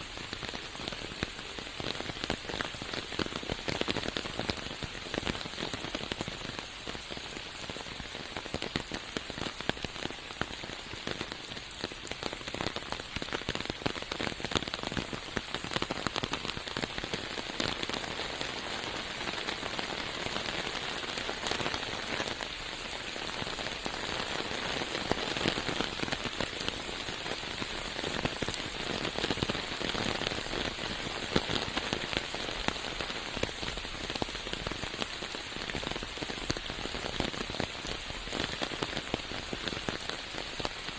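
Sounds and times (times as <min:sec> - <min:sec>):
steady rain with close drops: 0:00.0 - 0:40.9.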